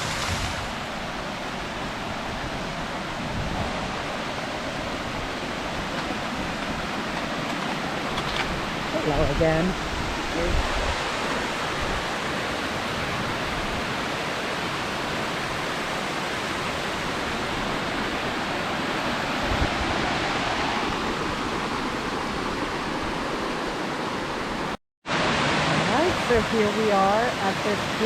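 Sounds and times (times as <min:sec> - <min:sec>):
small waterfall rushing: 0:00.0 - 0:28.0.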